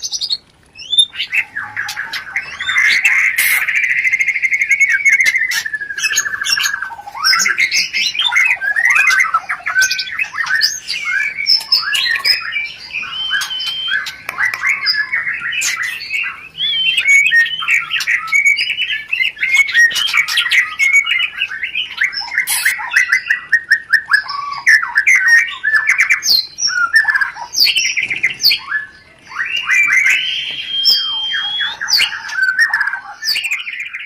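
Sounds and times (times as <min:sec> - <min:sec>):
bird chattering calls: 0:00.0 - 0:34.0
drawn-out bird whistle: 0:00.0 - 0:34.0.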